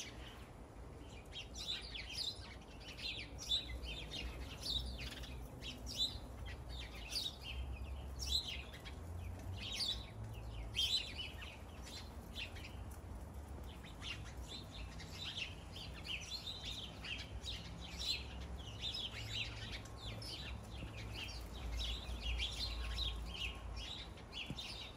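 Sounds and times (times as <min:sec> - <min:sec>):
songbirds chirping: 0:00.0 - 0:24.9.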